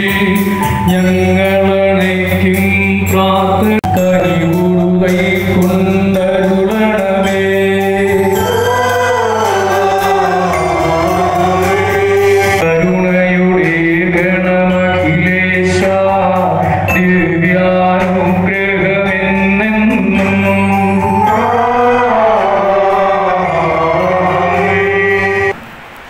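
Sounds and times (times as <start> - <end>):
sustained instrumental accompaniment: 0.0 - 25.5
congregation singing a hymn: 4.0 - 14.9, 15.6 - 25.6.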